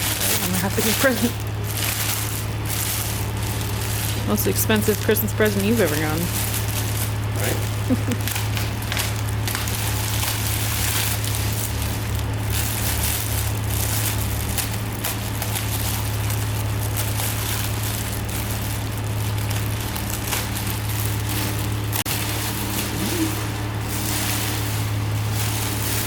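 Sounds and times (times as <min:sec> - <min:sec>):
crackling hiss: 0:00.0 - 0:26.0
motor humming: 0:00.0 - 0:26.0.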